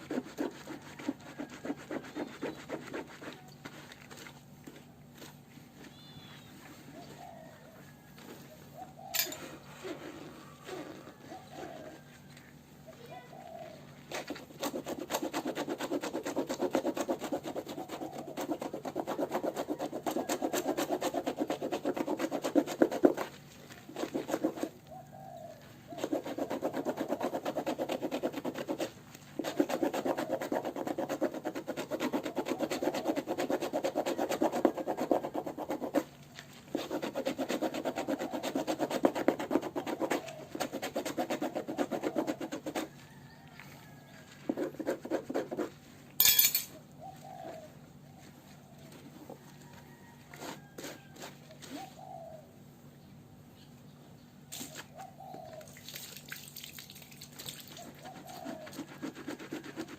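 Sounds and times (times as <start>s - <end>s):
scraping strokes on fabric: 0.0s - 7.3s, 8.2s - 12.5s, 13.1s - 43.1s, 43.7s - 46.0s, 47.4s - 52.1s, 57.8s - 59.9s.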